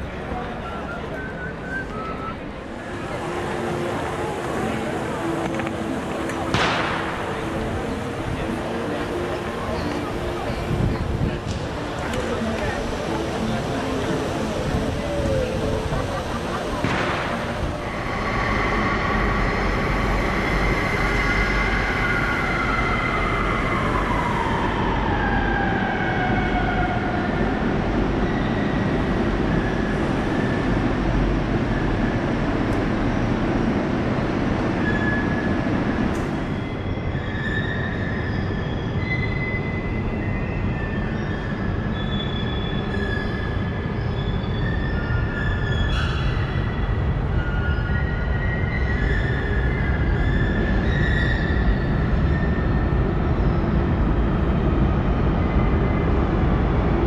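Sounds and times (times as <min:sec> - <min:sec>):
machinery running with whine: 0:00.0 - 0:57.0.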